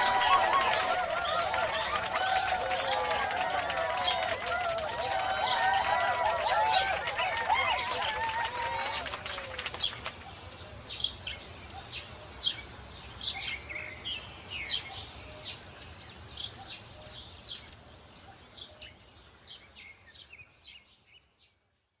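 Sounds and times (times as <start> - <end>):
low steady background noise: 0.0 - 22.0.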